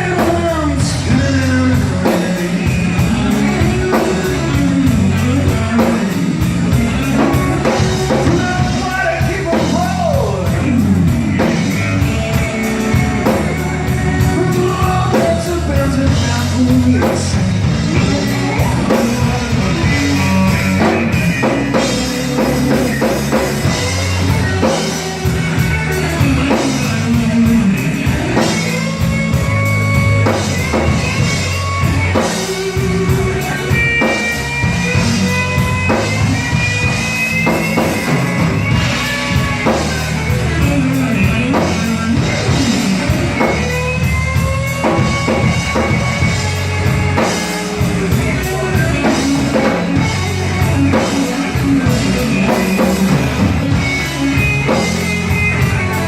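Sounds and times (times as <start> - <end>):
blues-rock band playing: 0.0 - 56.0
lead guitar bent notes: 0.0 - 56.0.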